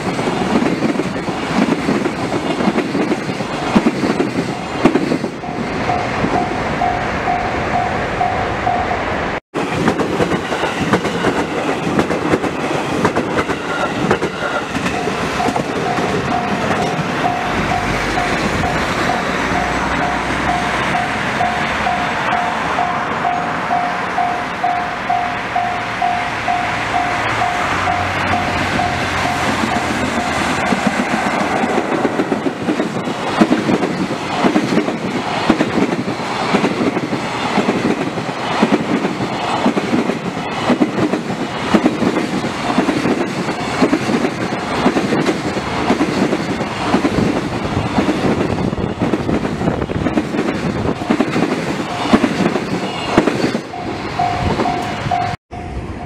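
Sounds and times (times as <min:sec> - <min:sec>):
wheels clickety-clack over rail joints: 0:00.0 - 0:07.4, 0:09.6 - 0:55.7
freight train passing: 0:00.0 - 0:56.0.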